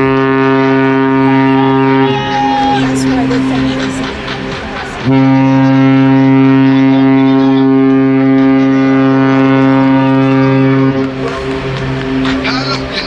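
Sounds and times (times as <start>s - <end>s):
ship horn deep blast: 0.0s - 13.0s.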